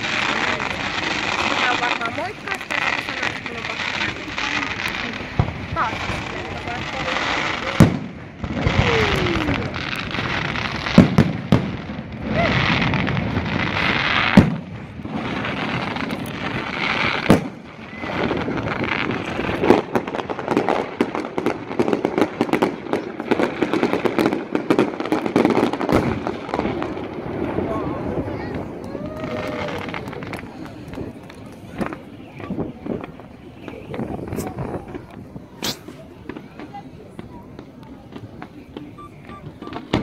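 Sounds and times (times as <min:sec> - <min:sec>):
firework crackling: 0:00.0 - 0:40.0.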